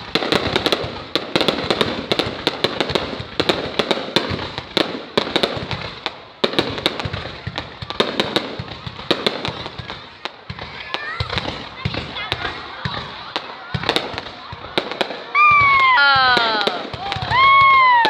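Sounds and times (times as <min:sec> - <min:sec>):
fireworks bangs and pops: 0:00.0 - 0:18.0
fireworks crackling hiss: 0:00.0 - 0:18.0.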